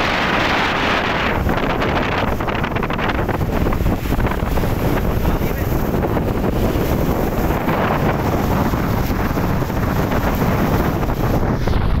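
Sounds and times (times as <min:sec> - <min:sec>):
waves splashing and lapping: 0:00.0 - 0:12.0
wind buffeting microphone: 0:00.0 - 0:12.0.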